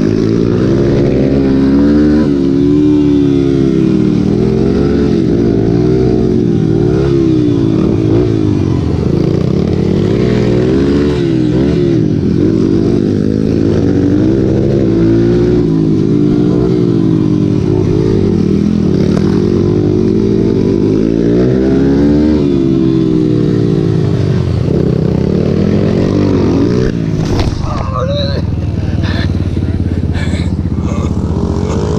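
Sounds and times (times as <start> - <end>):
racing motorcycle engines revving: 0.0 - 31.9.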